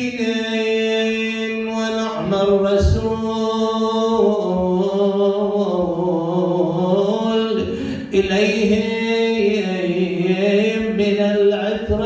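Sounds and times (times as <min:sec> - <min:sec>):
person chanting a lament: 0:00.0 - 0:12.0.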